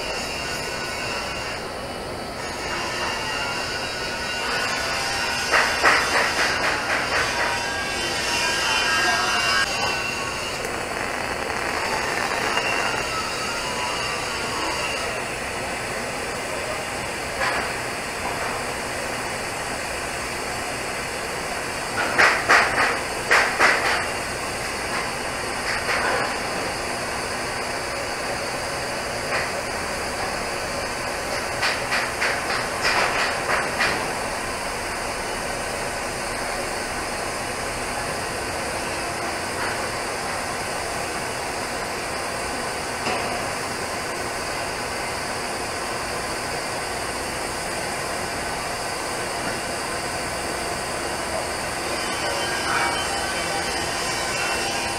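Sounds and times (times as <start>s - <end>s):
welding arc hissing: 0.0s - 54.9s.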